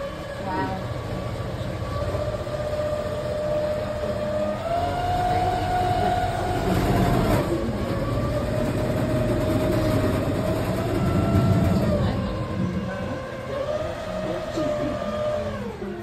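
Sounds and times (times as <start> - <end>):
boat motor whine: 0.0 - 16.0.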